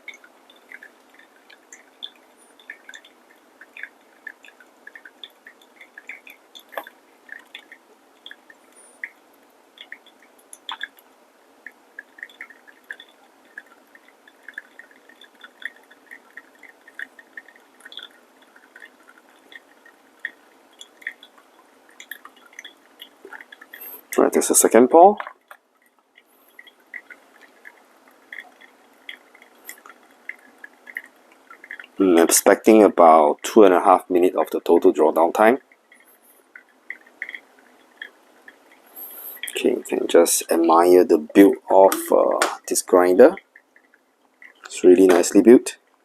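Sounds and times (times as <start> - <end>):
liquid trickling and dripping: 0.0 - 46.0.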